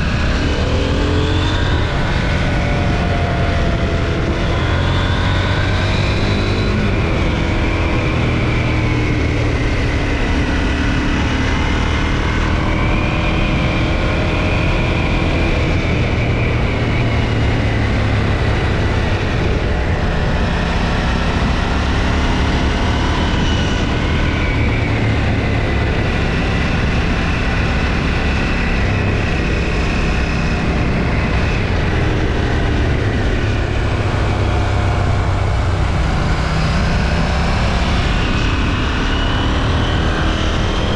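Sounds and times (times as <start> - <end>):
motorcycle engine cruising: 0.0 - 40.9
wind and road rush: 0.0 - 40.9.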